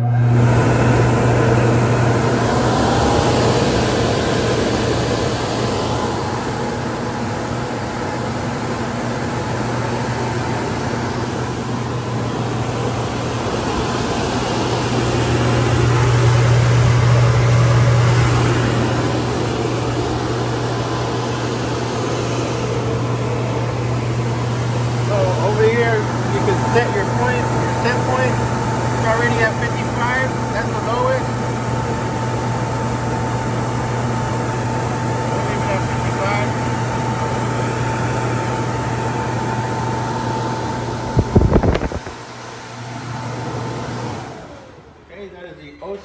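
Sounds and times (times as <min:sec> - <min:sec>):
fan air rushing: 0:00.0 - 0:46.0
portable air cooler humming: 0:00.0 - 0:46.0.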